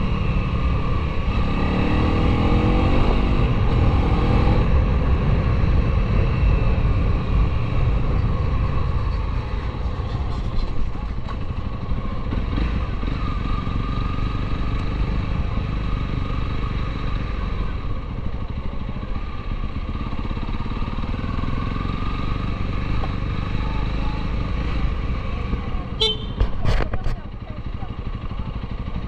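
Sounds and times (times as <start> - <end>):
motorcycle engine running at low speed: 0.0 - 29.0.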